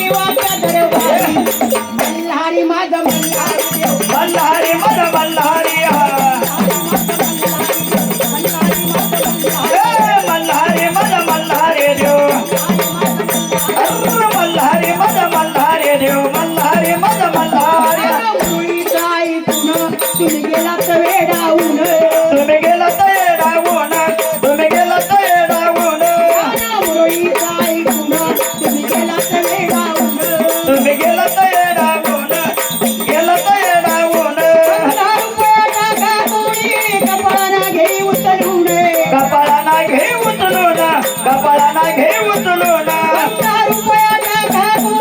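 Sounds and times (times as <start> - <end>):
jingling rattle rhythm: 0.0 - 2.4, 3.0 - 45.0.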